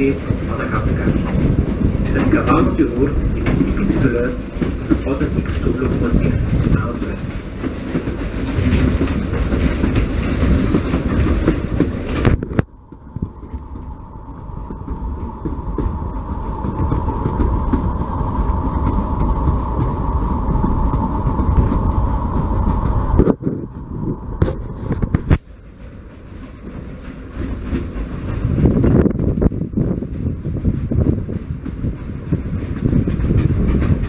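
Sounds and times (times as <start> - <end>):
coaches rumbling along rails: 0.0 - 34.0
steam locomotive working hard: 0.0 - 34.0.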